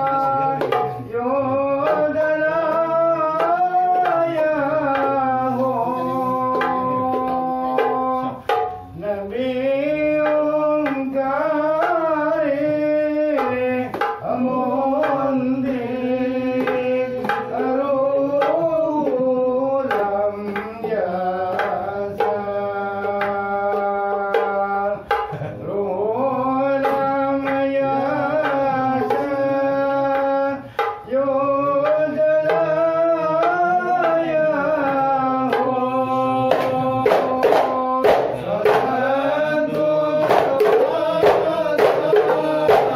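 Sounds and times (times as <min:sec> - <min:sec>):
frame drums beating: 0:00.0 - 0:42.9
voices singing devotional melody: 0:00.0 - 0:42.9.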